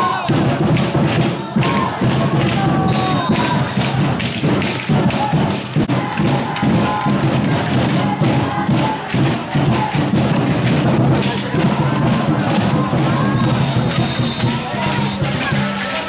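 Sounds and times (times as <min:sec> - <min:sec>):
drumbeats: 0:00.0 - 0:16.0
shouting voices: 0:00.0 - 0:16.0.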